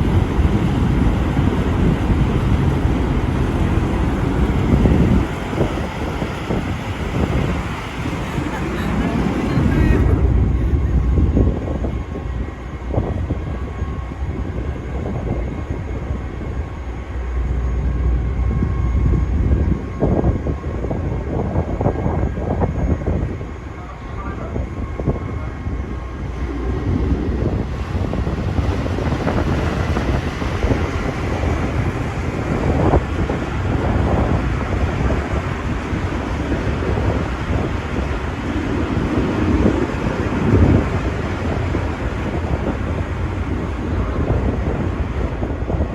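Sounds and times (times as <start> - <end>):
faint machinery tones: 0.0 - 45.6
ferry engines rumbling: 0.0 - 45.9
wind buffeting microphone: 0.0 - 45.9.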